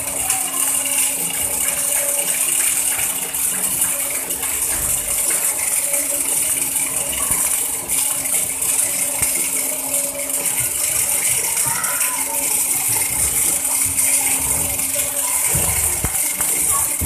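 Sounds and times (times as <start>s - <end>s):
low machinery hum: 0.0s - 17.0s
welding arc crackling hiss: 2.2s - 17.0s.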